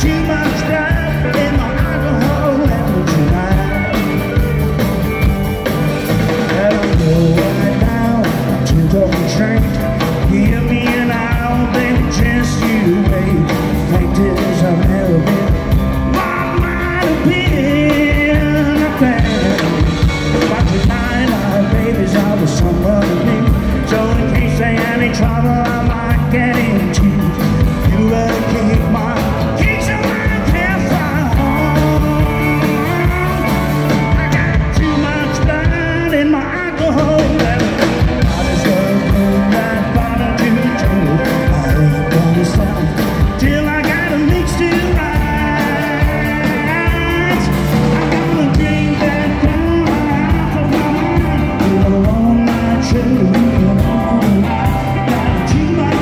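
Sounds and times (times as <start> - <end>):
live country band playing: 0.0 - 56.0.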